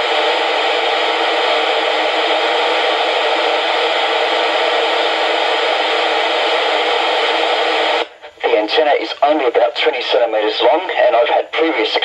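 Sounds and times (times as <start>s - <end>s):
radio receiver hiss: 0.0s - 12.0s.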